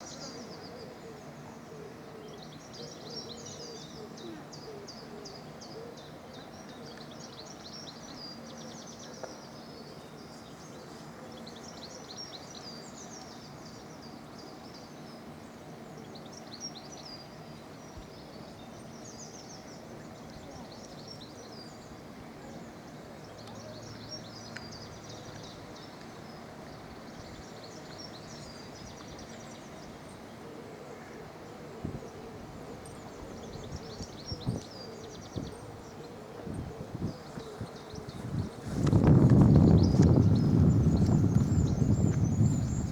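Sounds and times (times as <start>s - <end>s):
outdoor background hiss: 0.0s - 42.9s
songbirds chirping: 0.0s - 42.9s.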